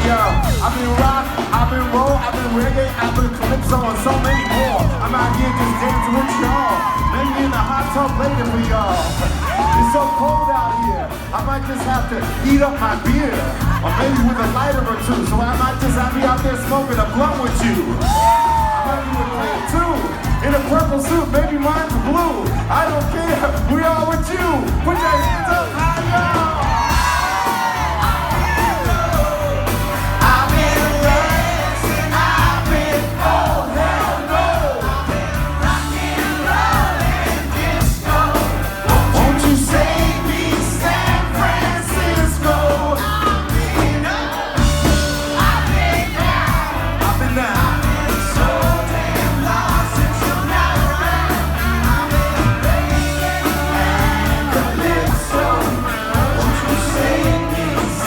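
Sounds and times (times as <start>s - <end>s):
person singing: 0.0s - 58.0s
pop-rock band playing: 0.0s - 58.0s.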